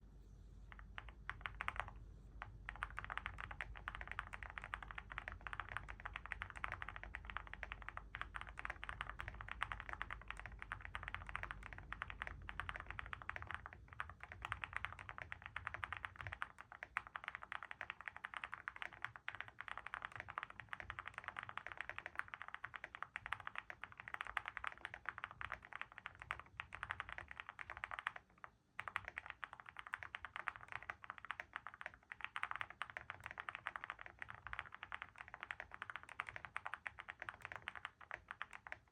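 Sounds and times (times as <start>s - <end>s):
fast typing on mechanical keyboard: 0.7s - 38.9s.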